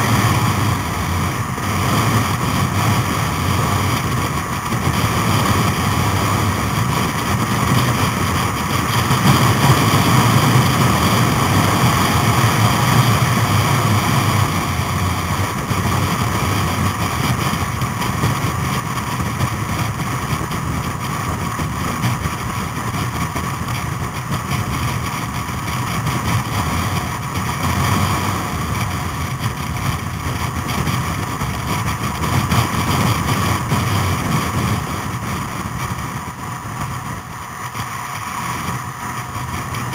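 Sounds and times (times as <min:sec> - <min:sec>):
motorcycle engine running: 0:00.0 - 0:39.9
road noise: 0:00.0 - 0:39.9
wind rush: 0:00.0 - 0:39.9.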